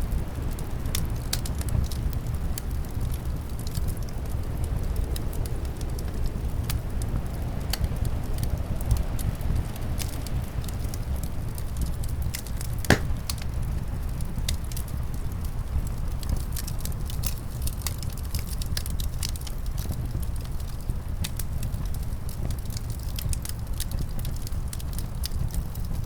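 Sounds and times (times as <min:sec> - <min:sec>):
wood fire crackling and popping: 0:00.1 - 0:26.0.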